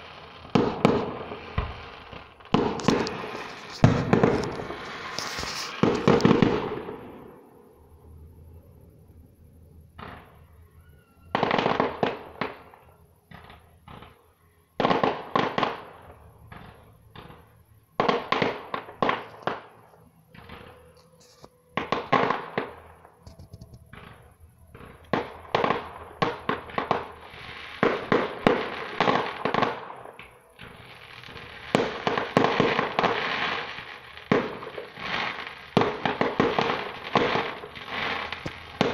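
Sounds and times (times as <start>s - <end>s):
fireworks bursting: 0.0s - 8.0s, 11.3s - 14.2s, 14.8s - 38.9s.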